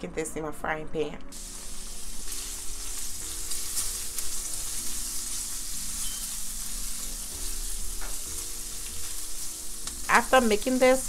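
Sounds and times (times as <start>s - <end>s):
bacon sizzling in a frying pan: 1.3s - 11.0s.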